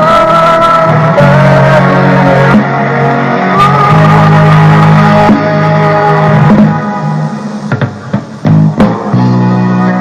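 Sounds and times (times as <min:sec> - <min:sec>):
guitar melody: 0:00.0 - 0:10.0
held bass notes: 0:00.0 - 0:10.0.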